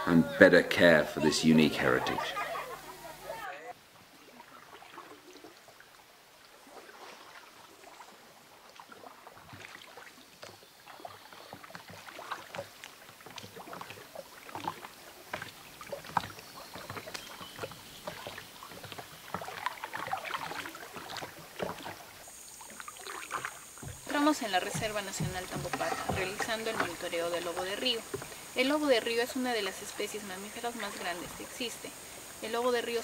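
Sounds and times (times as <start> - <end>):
paddle splashing in water: 0.8 - 33.0.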